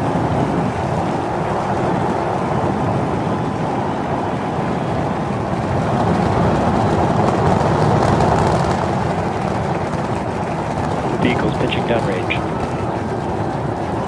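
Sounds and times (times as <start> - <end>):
rocket engine roar: 0.0 - 14.0.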